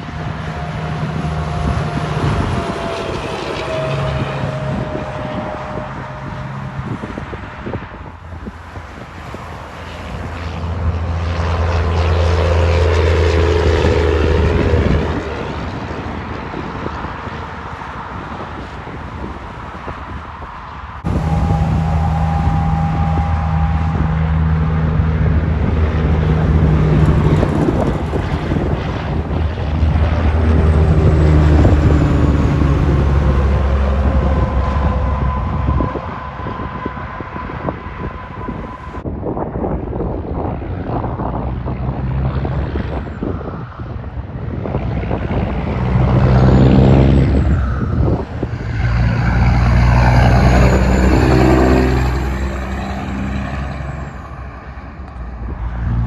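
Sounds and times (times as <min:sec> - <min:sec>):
heavy trucks passing: 0:00.0 - 0:56.0
tyre and road noise: 0:00.0 - 0:56.0.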